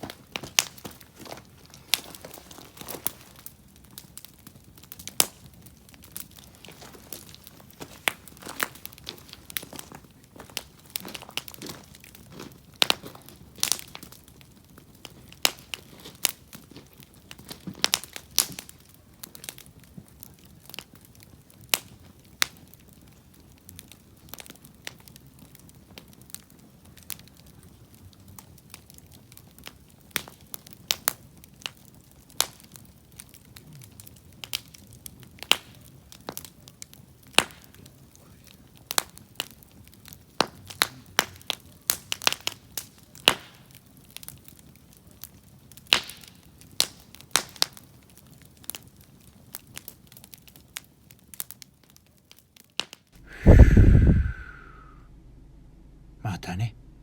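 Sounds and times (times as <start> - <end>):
campfire crackling and popping: 0.0 - 54.8.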